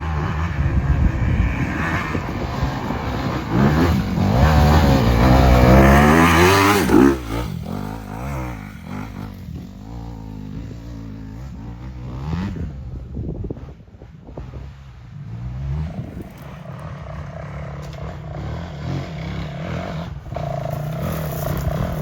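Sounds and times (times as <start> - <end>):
dirt bike engine revving: 0.0 - 13.6, 15.3 - 22.0.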